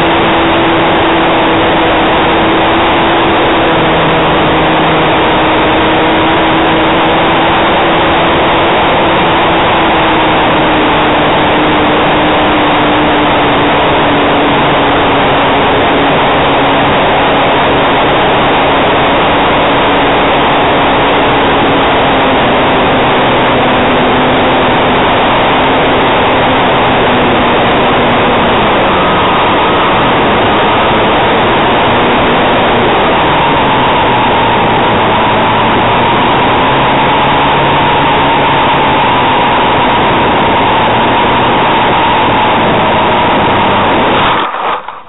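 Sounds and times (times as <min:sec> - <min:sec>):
electric motor and propeller whirring: 0:00.0 - 0:45.0.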